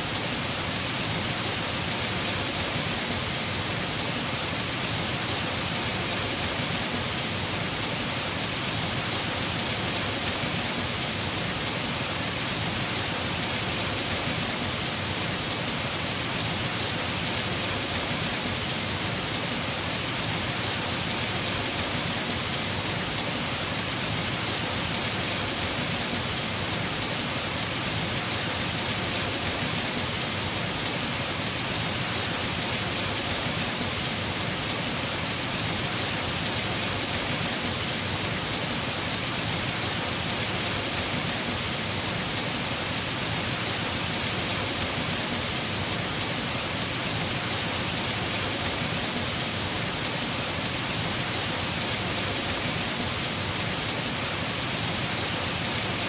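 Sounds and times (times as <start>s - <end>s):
heavy rain on a roof: 0.0s - 56.0s.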